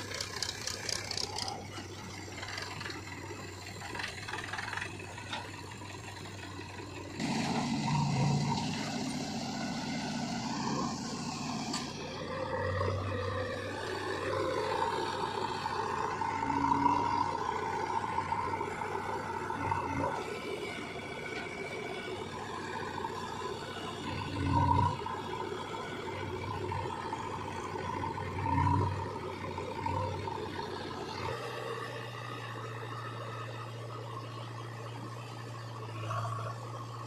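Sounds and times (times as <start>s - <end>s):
diesel engine running and revving: 0.0s - 37.0s.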